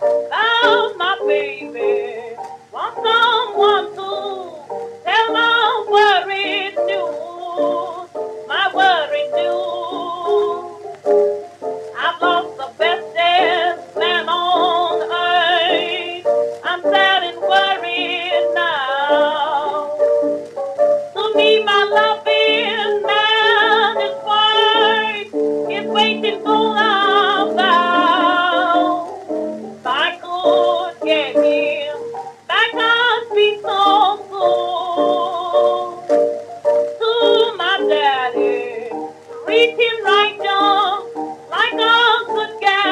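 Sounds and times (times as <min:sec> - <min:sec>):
piano accompaniment: 0:00.0 - 0:42.9
woman singing blues: 0:00.3 - 0:11.0, 0:11.8 - 0:20.1, 0:21.2 - 0:36.2, 0:36.9 - 0:42.9.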